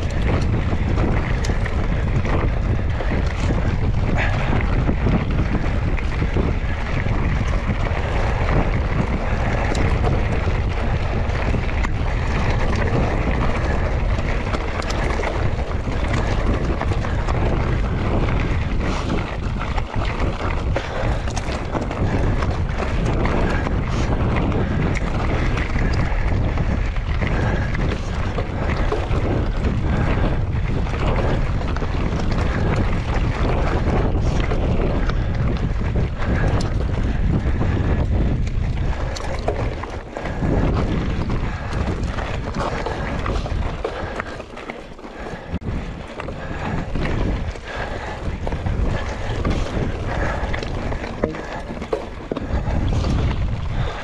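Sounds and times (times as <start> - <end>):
bike knocks and rattles: 0.0 - 54.0
bike tyres rumbling on trail: 0.0 - 54.0
wind noise on microphone: 0.0 - 54.0.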